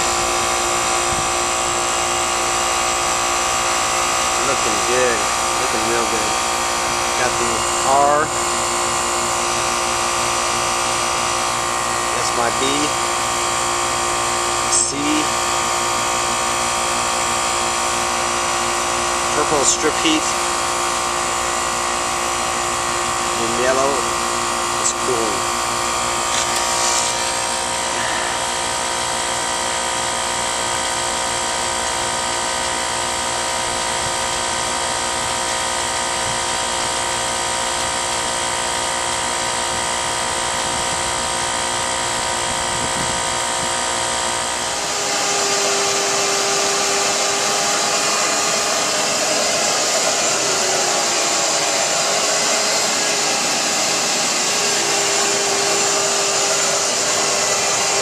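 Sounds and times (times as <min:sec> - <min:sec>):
machine whirring: 0:00.0 - 0:30.9, 0:31.6 - 0:58.0.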